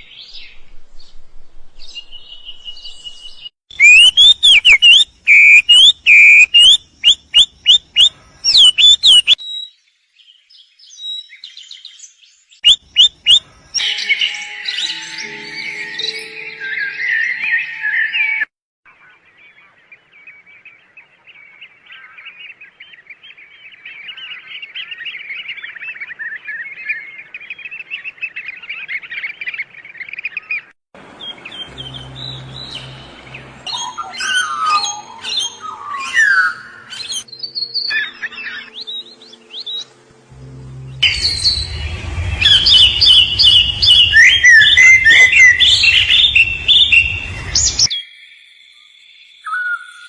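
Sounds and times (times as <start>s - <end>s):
birds chirping: 1.8s - 49.9s
bird calls with sweeping notes: 1.8s - 50.0s.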